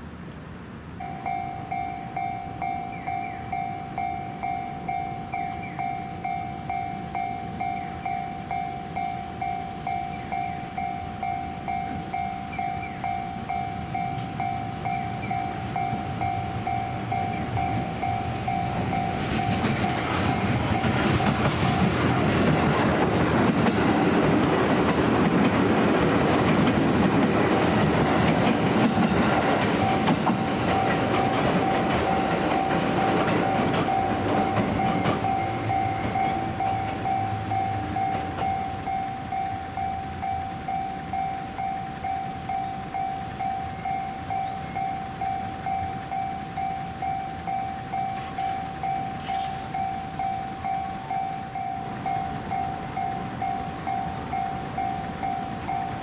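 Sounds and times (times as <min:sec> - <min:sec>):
train rumbling past: 0:00.0 - 0:56.0
electronic warning bell: 0:01.0 - 0:22.3, 0:29.2 - 0:56.0.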